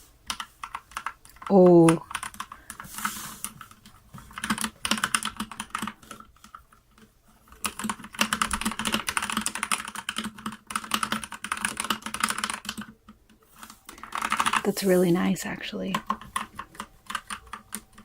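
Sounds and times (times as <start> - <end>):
mechanical keyboard typing: 0.2 - 18.0.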